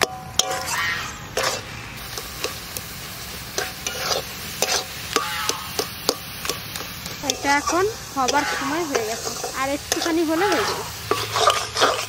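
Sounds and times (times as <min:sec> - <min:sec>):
metal spatula scraping wok: 0:00.0 - 0:12.0
mixture sizzling: 0:00.0 - 0:12.0.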